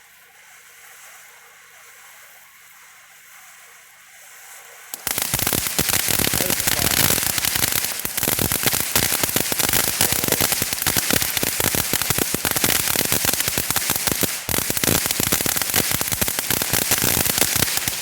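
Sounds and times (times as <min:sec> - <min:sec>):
firework fountain crackling: 0:00.0 - 0:18.0.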